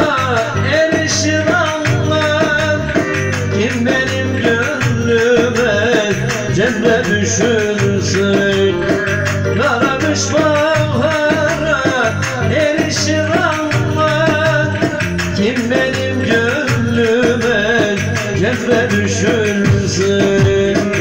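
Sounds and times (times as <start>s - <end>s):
rhythmic backing: 0.0s - 21.0s.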